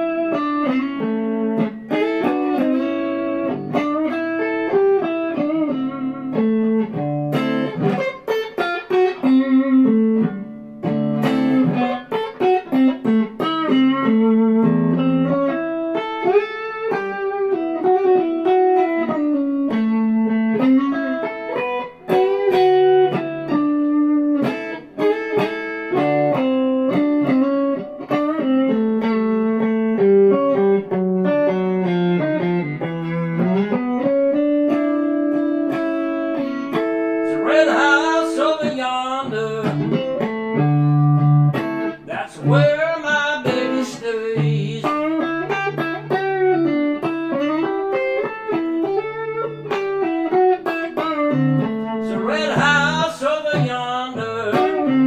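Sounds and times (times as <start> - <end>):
electric guitar playing slow blues: 0.0 - 55.0.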